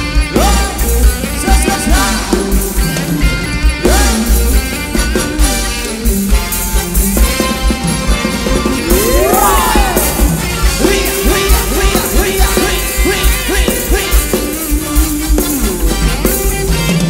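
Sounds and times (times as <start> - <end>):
sliding bending lead melody: 0.0 - 17.0.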